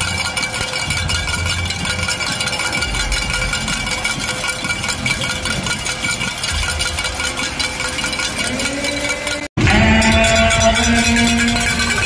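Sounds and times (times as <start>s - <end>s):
crowd murmur: 0.0s - 12.0s.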